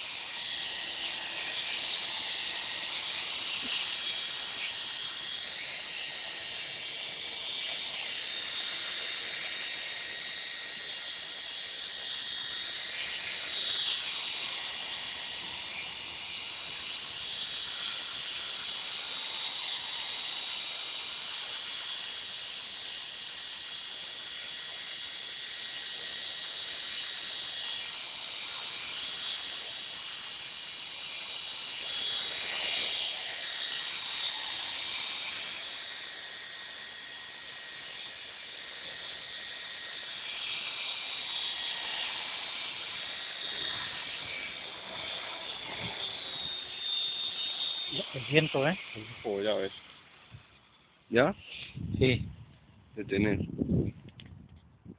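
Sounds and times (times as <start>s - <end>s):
model helicopter motor whine: 0.0s - 54.9s.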